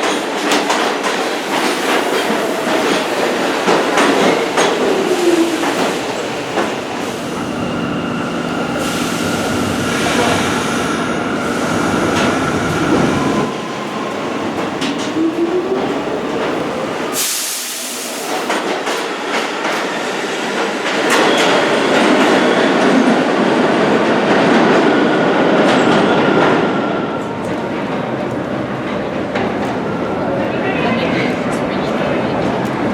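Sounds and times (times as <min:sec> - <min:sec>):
train rumble: 0:00.0 - 0:32.9.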